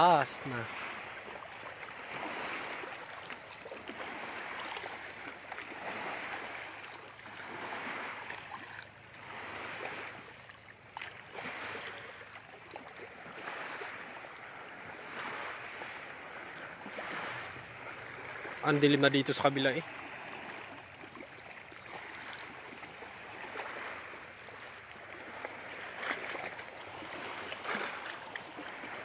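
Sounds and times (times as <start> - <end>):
small waves washing in: 0.0 - 29.0.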